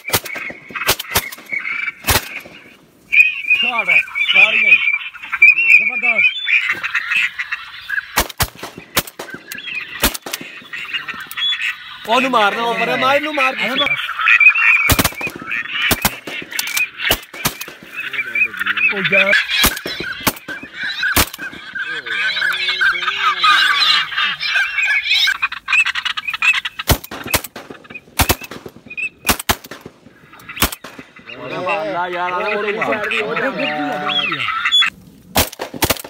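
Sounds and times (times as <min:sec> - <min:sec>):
waterfowl honking and quacking: 0:00.0 - 0:36.0.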